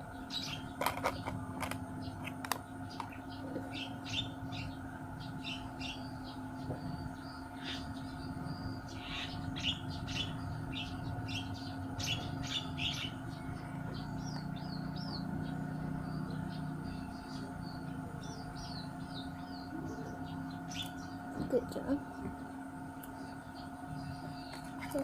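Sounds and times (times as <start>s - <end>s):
birds chirping and whistling: 0.0s - 25.0s
low mechanical hum: 0.0s - 25.0s.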